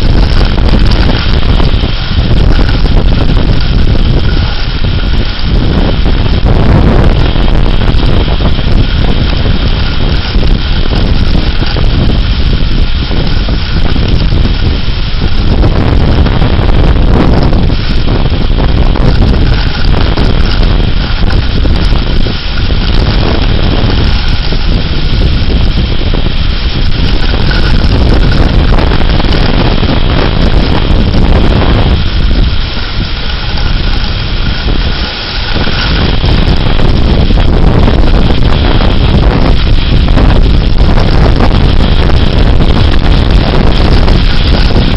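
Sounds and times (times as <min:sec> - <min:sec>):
wind gusts blasting microphone: 0:00.0 - 0:44.9.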